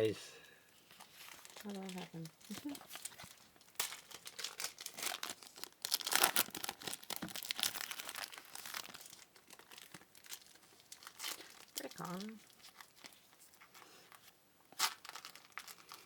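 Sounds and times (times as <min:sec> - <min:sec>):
wrapper crinkling and tearing: 0:00.9 - 0:16.0.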